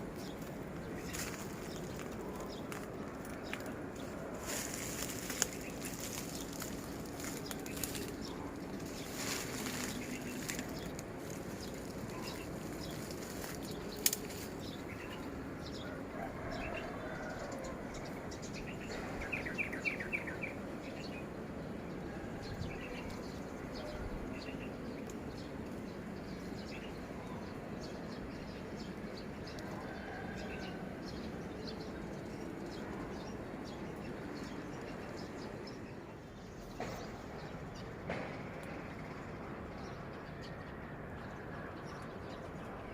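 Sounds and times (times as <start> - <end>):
birds chirping: 0.0 - 42.9
steady background hum: 0.0 - 42.9.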